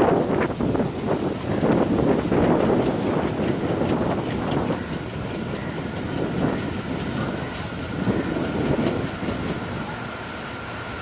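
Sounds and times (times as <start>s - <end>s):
diesel locomotive engine: 0.0s - 11.0s
train wheels rumbling on rails: 0.0s - 11.0s.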